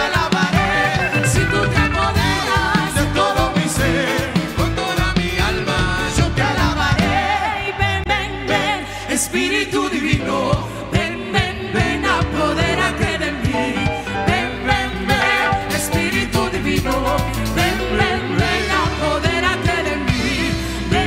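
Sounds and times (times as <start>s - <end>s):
chorus sung over a band: 0.0s - 21.0s
pulsing bass line: 0.0s - 21.0s.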